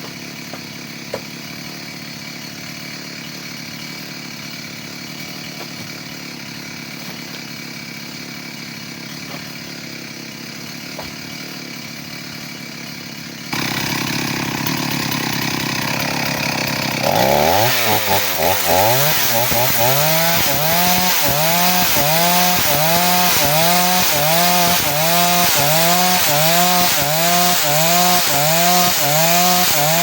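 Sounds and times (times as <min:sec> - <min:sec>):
chainsaw running and revving: 0:00.0 - 0:30.0.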